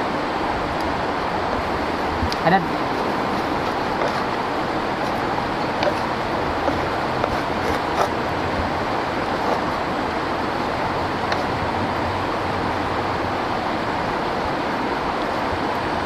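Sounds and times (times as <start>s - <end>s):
rocky stream flowing: 0.0s - 16.0s.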